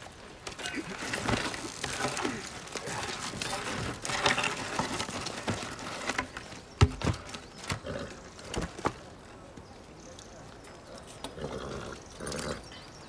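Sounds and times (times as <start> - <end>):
hooves on dirt track: 0.0 - 12.1.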